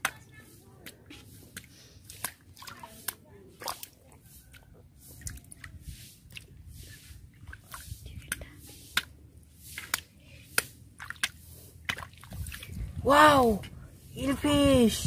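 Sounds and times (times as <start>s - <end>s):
hand squelching in wet mud: 0.8s - 13.0s.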